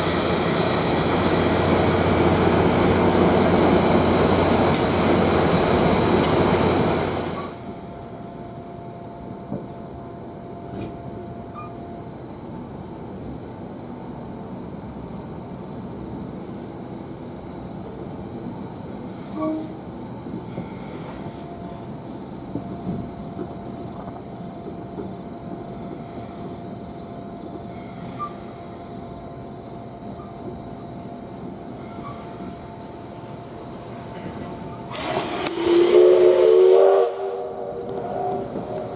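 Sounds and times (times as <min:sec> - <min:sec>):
train coach rumbling on rails: 0:00.0 - 0:38.9
insects chirping: 0:00.1 - 0:38.9.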